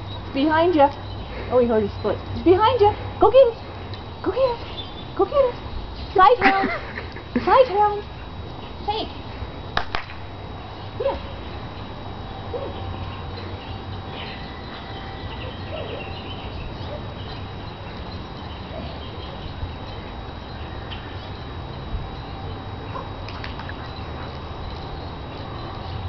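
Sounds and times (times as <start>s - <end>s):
background hiss and rumble: 0.0s - 26.0s.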